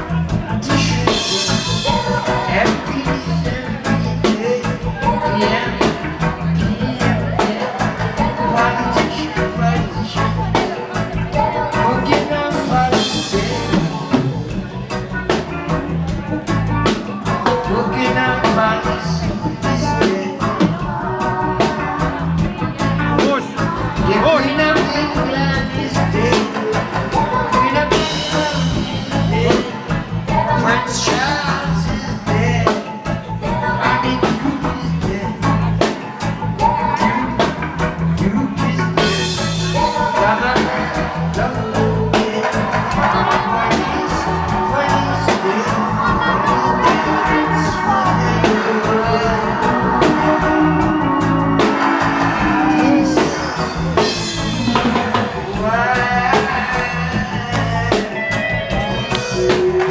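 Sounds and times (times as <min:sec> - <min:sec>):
man singing into microphone: 0:00.0 - 0:14.8, 0:17.2 - 0:59.9
heavy repeating bass line: 0:00.0 - 0:59.9
reggae band playing: 0:00.0 - 0:59.9.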